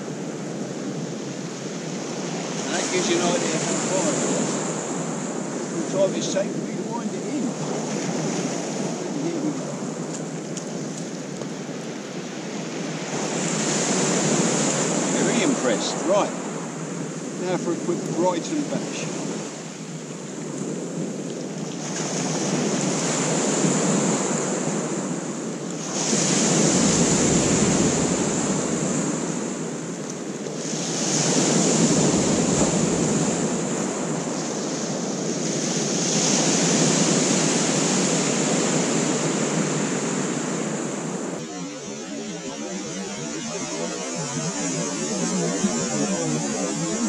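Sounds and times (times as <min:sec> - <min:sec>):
surf washing over shingle beach: 0:00.0 - 0:47.0.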